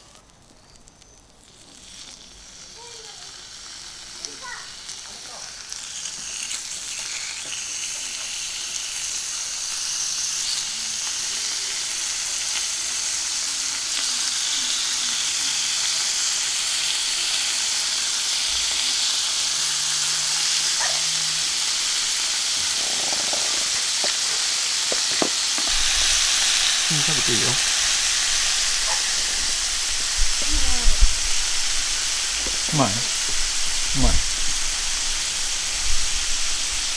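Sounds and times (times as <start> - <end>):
beef sizzling on a griddle: 0.0 - 36.9.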